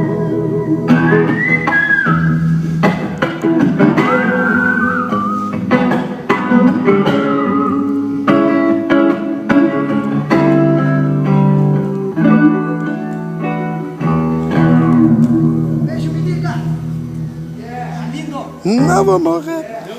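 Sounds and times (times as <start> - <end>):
guitar plucked notes and chords: 0.0 - 17.6, 18.5 - 19.6.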